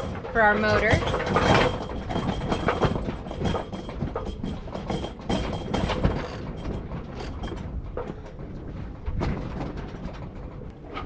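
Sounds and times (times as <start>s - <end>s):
low wind rumble on microphone: 0.0s - 11.0s
sailboat rigging rattling and clicking: 0.0s - 11.0s.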